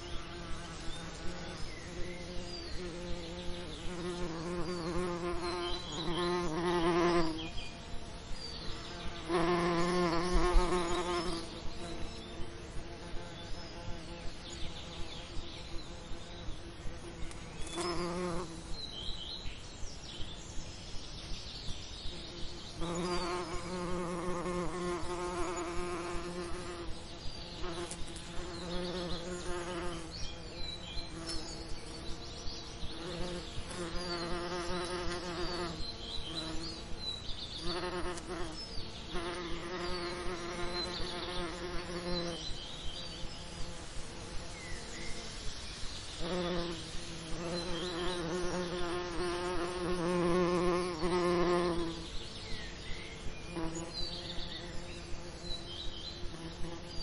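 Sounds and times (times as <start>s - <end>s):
bee buzzing: 0.0s - 19.4s, 22.0s - 57.0s.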